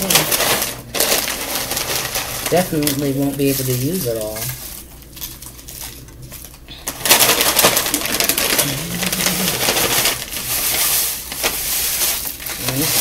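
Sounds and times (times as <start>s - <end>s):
chips tumbling onto dish: 0.0s - 13.0s
plastic bag crinkling: 0.0s - 13.0s.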